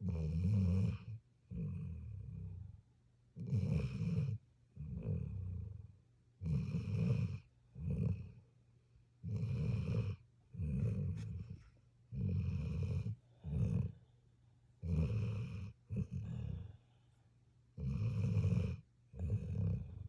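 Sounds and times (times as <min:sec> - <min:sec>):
puppy snoring: 0:00.0 - 0:02.8, 0:03.4 - 0:08.4, 0:09.2 - 0:14.1, 0:14.8 - 0:16.8, 0:17.8 - 0:20.0.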